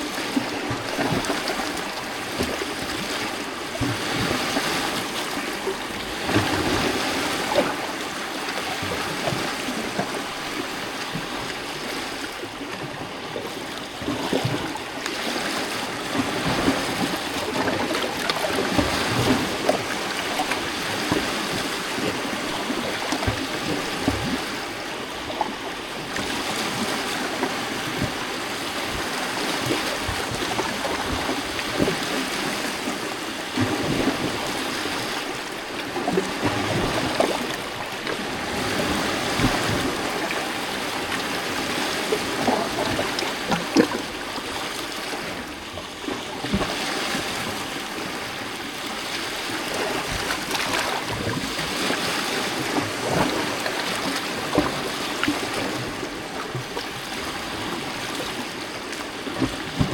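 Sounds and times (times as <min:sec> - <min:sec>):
waves lapping on rocky shore: 0:00.0 - 0:59.9.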